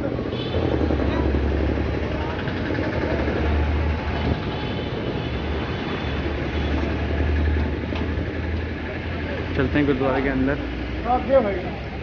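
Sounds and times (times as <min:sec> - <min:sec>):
low rumble of street noise: 0:00.0 - 0:12.0.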